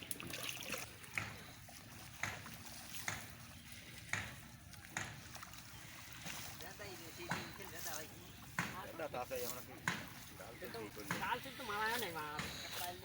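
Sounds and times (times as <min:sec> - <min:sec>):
oar strokes splashing: 0:00.0 - 0:13.0.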